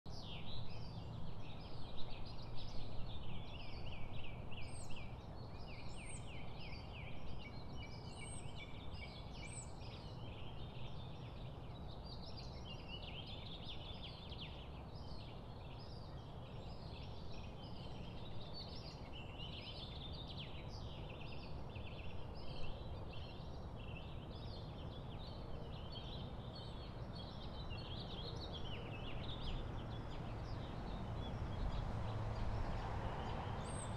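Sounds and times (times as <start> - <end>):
low steady background noise: 0.1 - 33.9
small birds chirping: 0.1 - 33.9.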